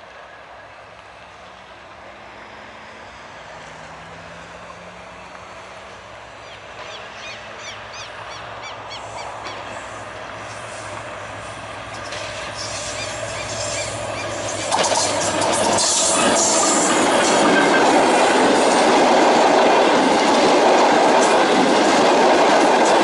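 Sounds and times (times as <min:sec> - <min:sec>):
diesel locomotive engine hum: 0:00.0 - 0:23.0.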